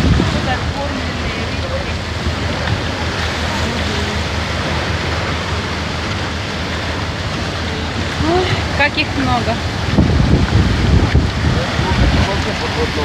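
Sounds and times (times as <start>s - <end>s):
low engine rumble: 0.0s - 13.0s
water churning past boat hull: 0.0s - 13.0s
wind on microphone: 0.0s - 13.0s.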